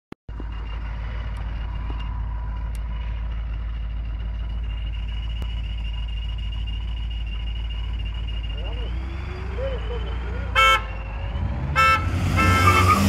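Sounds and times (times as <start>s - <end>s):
car engine idling with whine: 0.3s - 13.0s.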